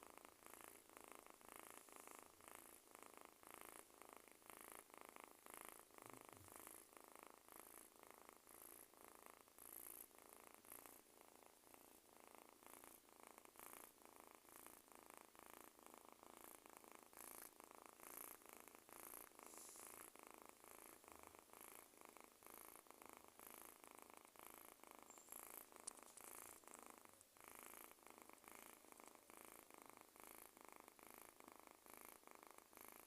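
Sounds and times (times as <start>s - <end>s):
kitten purring: 0.0s - 33.0s.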